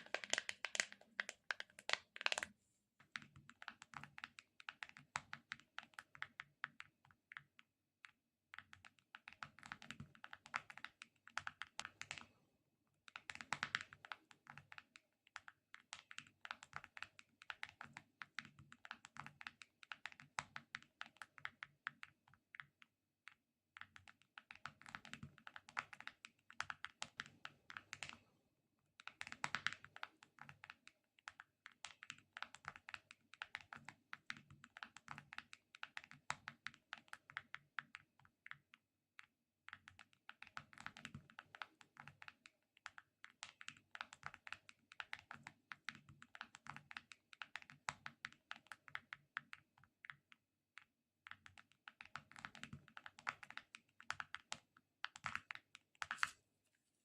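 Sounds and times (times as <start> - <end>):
crackly clicks and light taps: 0.0 - 12.4, 13.0 - 56.4.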